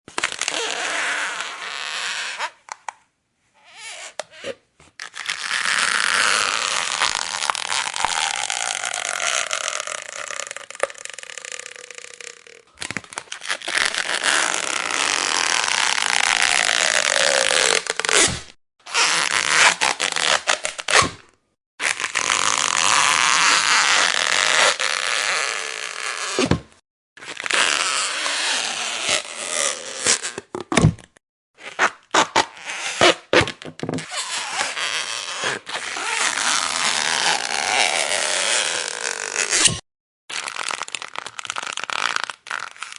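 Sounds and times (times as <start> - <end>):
rubber creaking and squeaking: 0.2 - 2.8, 3.6 - 21.2, 21.9 - 39.8.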